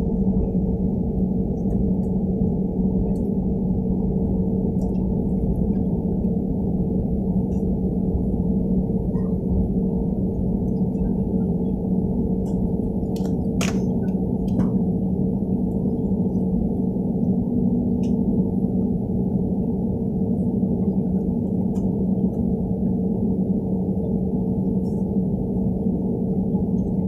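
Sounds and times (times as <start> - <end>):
airplane engine drone in cabin: 0.0 - 27.0.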